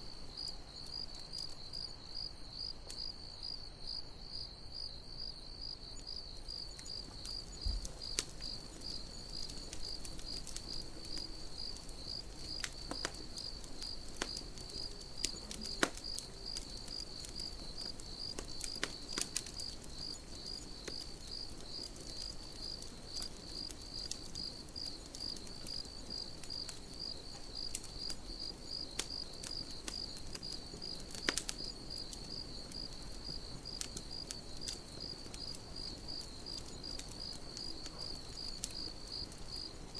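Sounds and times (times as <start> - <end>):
campfire crackling: 0.0 - 3.6, 5.3 - 39.9
crickets chirping: 0.0 - 39.9.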